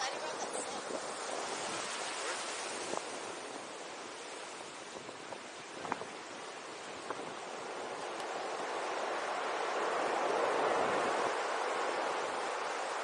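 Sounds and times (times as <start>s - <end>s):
waves breaking on rocky shore: 0.0s - 13.0s.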